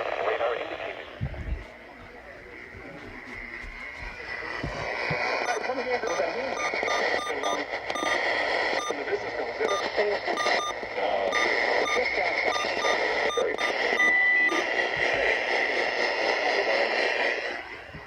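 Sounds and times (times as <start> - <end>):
radio static and hiss: 0.0 - 18.0.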